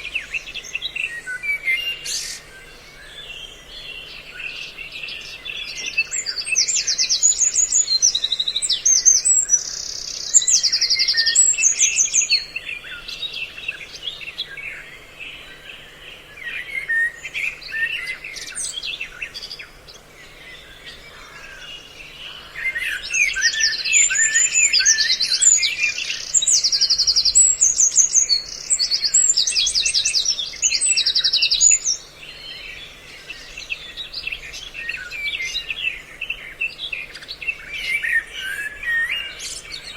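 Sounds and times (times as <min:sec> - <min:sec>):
lower bird chirping: 0:00.0 - 0:39.9.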